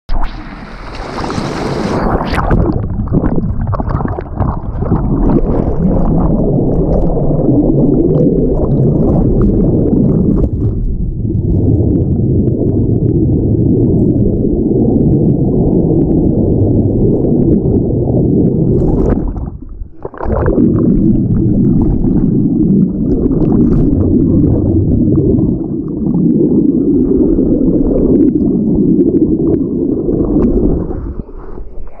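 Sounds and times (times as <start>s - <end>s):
muffled underwater river rumble: 0.1s - 32.0s.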